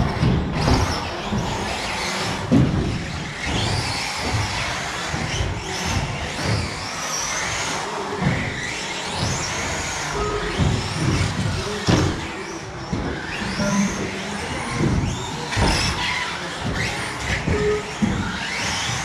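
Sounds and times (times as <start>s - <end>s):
chassis rumble and knocks: 0.0s - 6.8s, 8.2s - 19.0s
rc car motor whine: 0.0s - 19.0s.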